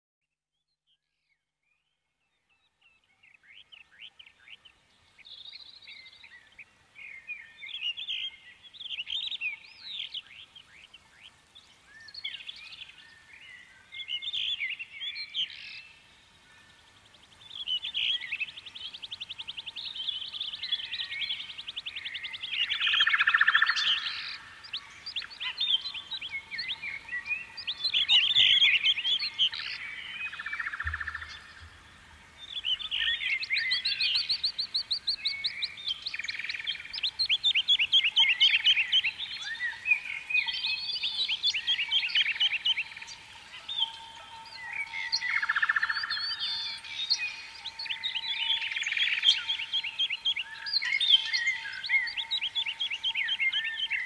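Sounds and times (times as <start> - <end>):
songbirds chirping and trilling: 1.2 - 54.0.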